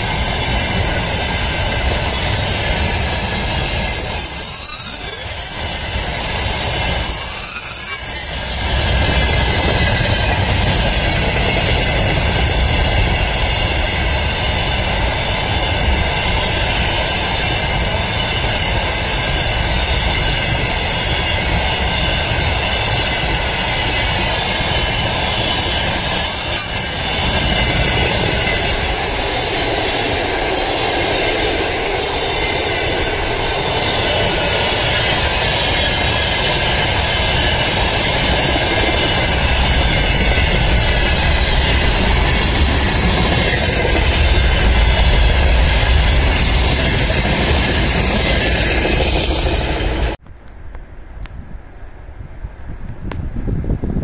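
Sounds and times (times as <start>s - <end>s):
high ringing tones: 0.0s - 50.1s
train wheels rumbling on rail: 0.0s - 51.8s.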